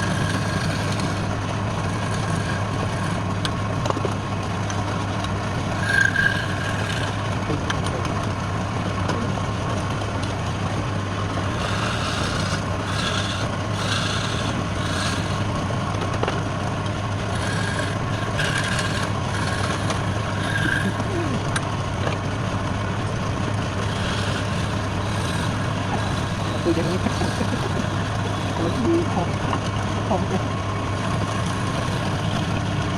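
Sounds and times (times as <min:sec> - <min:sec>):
woodturning lathe humming: 0:00.0 - 0:32.9.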